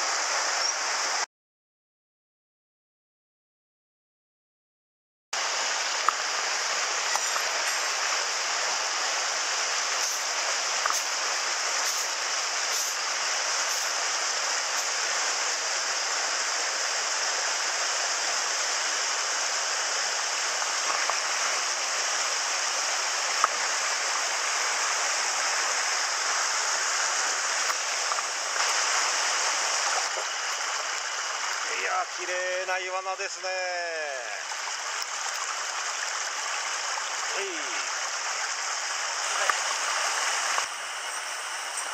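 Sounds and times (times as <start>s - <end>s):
stream rushing over boulders: 0.0s - 1.2s, 5.4s - 41.9s.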